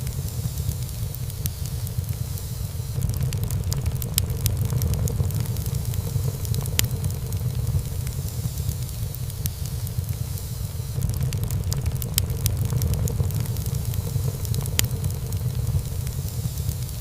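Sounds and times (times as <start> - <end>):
burning wood crackling and popping: 0.0 - 17.0
low rumble of flames: 0.0 - 17.0.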